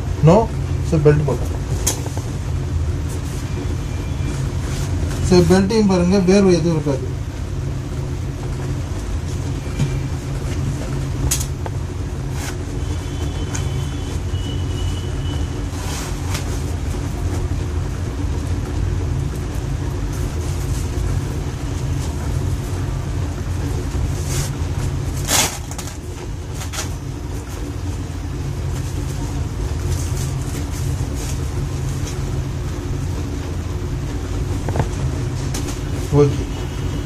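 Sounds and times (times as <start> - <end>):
electric fan motor hum: 0.0 - 37.0.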